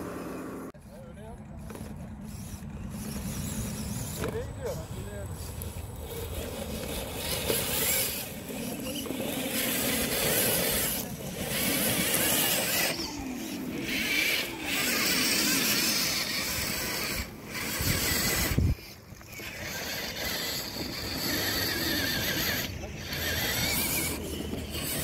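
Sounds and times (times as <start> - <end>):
electric motors whining: 0.0 - 25.0.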